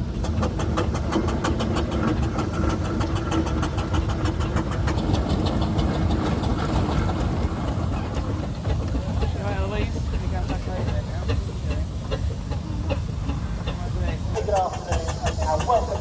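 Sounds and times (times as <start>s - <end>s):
steam engine exhaust beating: 0.0s - 16.0s.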